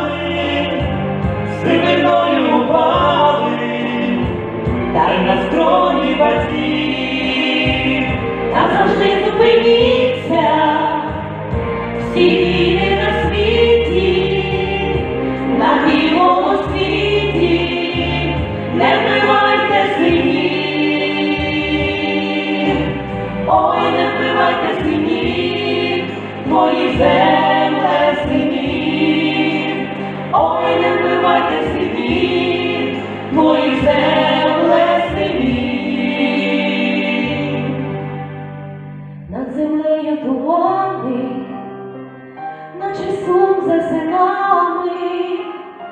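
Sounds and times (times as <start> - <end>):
choir singing: 0.0 - 38.6
instrumental backing music: 0.0 - 45.9.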